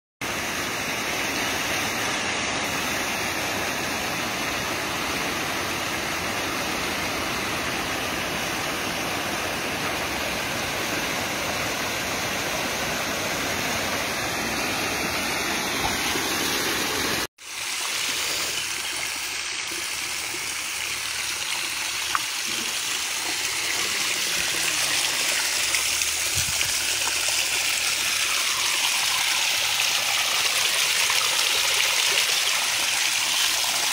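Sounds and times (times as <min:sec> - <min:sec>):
water gushing and splashing: 0:00.2 - 0:33.9.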